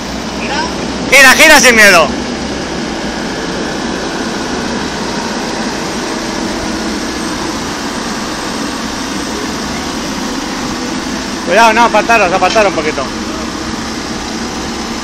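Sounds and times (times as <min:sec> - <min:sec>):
excavator diesel engine and hydraulics: 0:00.0 - 0:15.0.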